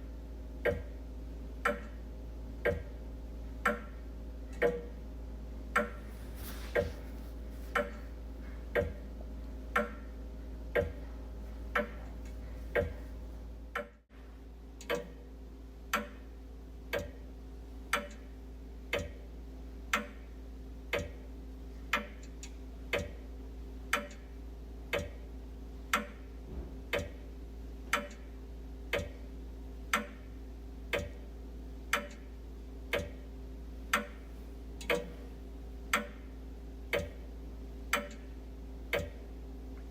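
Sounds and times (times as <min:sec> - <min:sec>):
steady low hum: 0:00.0 - 0:39.9
wall clock ticking: 0:00.6 - 0:14.1, 0:14.7 - 0:39.9.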